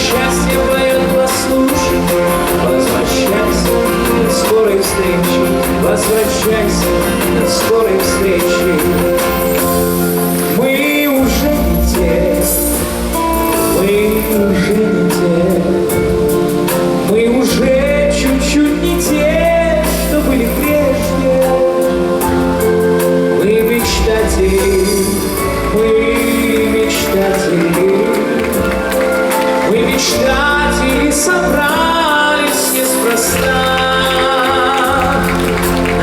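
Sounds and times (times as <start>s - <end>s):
song with bass and bending melody: 0.0s - 36.0s.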